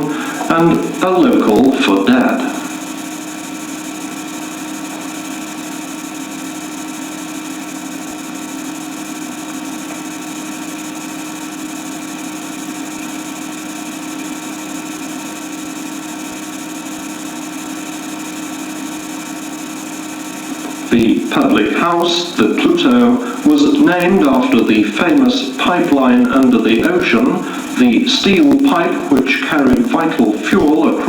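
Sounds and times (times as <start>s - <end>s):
small motor humming: 0.0s - 31.0s.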